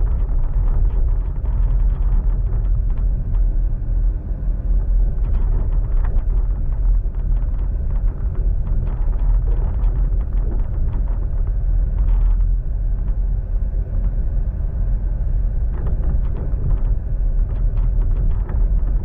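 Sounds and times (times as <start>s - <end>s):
light clicks and rattles: 0.0s - 3.6s, 4.7s - 14.3s, 15.2s - 19.0s
train wheels rumbling on rail: 0.0s - 19.0s.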